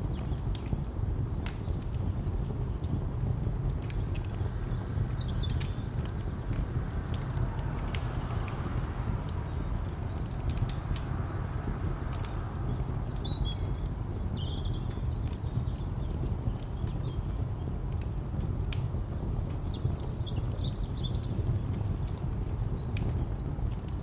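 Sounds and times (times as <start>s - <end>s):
distant traffic rumble: 0.0s - 24.0s
wood fire crackling: 0.0s - 24.0s.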